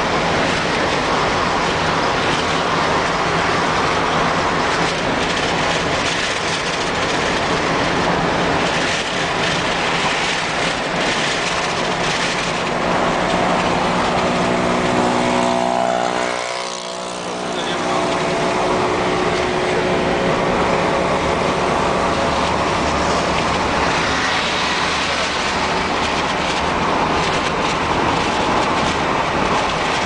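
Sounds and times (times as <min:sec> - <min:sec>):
car road noise from inside cabin: 0:00.0 - 0:30.0.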